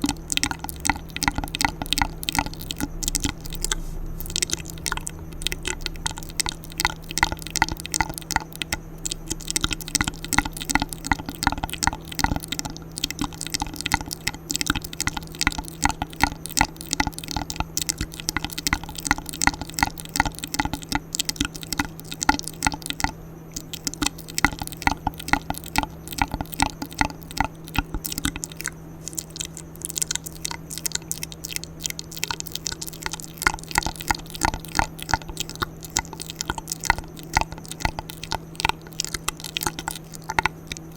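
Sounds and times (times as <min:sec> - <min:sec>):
wet mouth clicks and smacks: 0:00.0 - 0:40.9.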